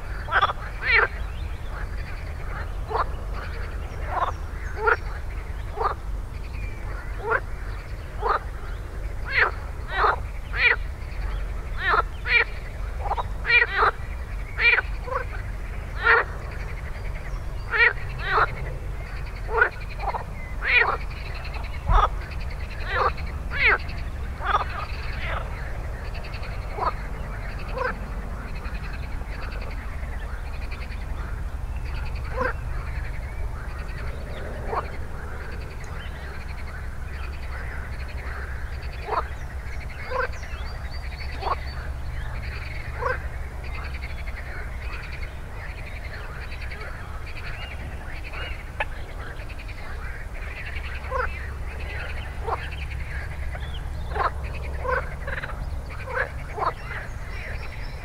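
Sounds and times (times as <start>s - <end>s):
distant frogs calling: 0.0s - 58.0s
frogs croaking: 0.0s - 58.0s.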